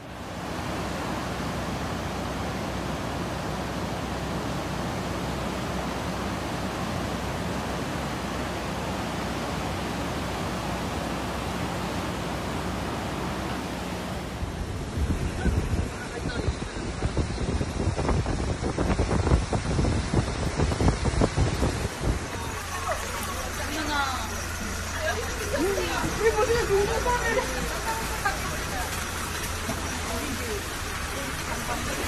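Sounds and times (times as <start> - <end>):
heavy water rushing: 0.0 - 32.0.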